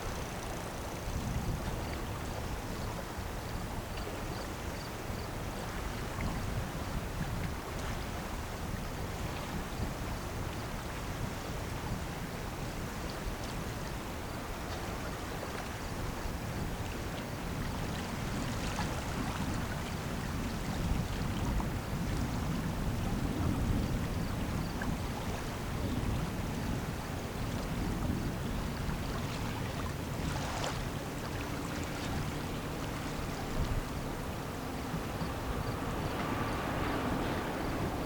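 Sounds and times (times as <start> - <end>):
low rumble of passing ship: 0.0 - 38.0
water noise: 0.0 - 38.0
wind: 0.0 - 38.0.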